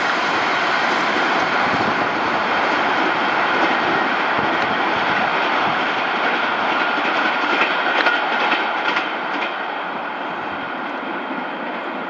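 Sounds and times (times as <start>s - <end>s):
train coaches rolling over track: 0.0s - 12.0s
wheels clacking at rail joints: 0.0s - 12.0s.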